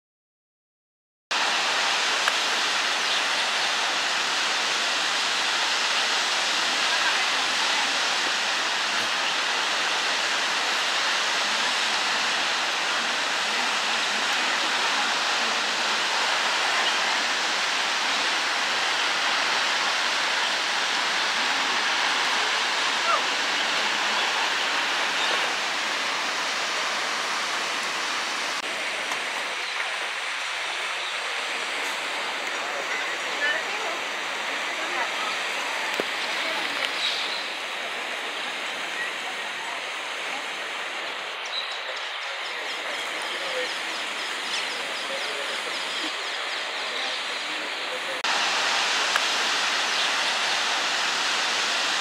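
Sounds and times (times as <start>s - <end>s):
waterfall rushing: 1.3s - 52.0s
steady hiss: 1.4s - 52.0s.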